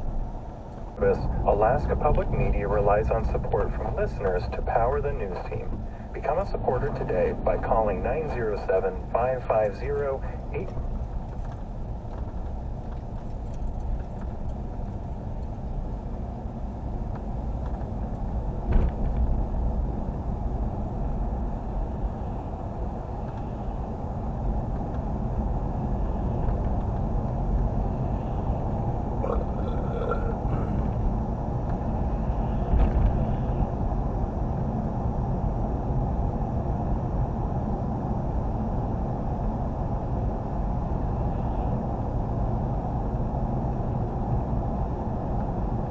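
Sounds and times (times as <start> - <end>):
car road and engine rumble: 0.0 - 45.9.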